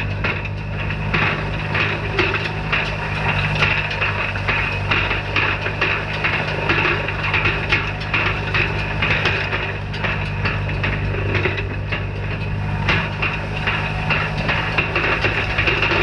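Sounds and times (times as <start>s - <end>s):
hay rake clicking and knocking: 0.0s - 16.0s
tractor engine running: 0.0s - 16.0s.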